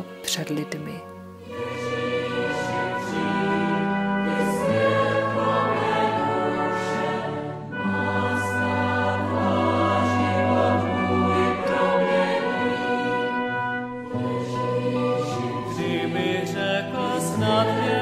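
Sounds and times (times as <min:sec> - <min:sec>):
choir singing slow chords: 0:01.1 - 0:18.0.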